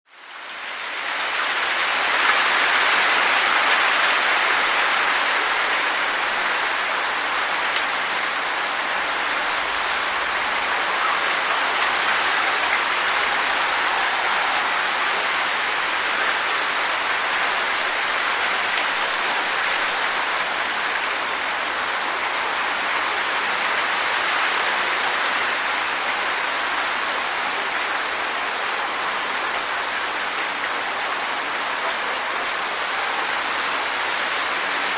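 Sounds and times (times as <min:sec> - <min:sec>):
wind rustling tree leaves: 0:00.1 - 0:34.9.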